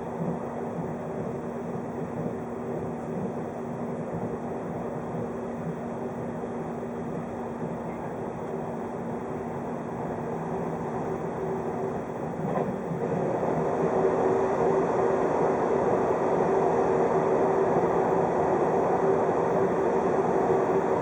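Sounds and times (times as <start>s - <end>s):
train wheels on rails humming: 0.0s - 21.0s.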